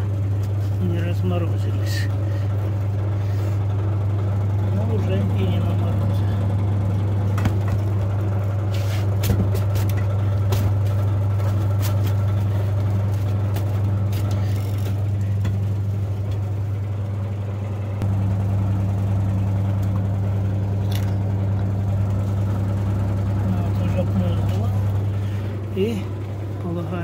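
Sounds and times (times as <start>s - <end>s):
electric fan humming: 0.0s - 27.0s.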